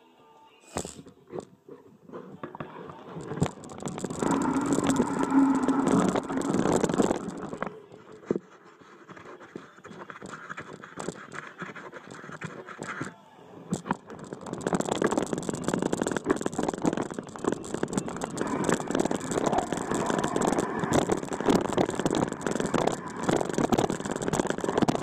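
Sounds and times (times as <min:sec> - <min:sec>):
bike rattling and clicking: 0:02.4 - 0:08.4, 0:10.0 - 0:13.1, 0:13.7 - 0:25.0.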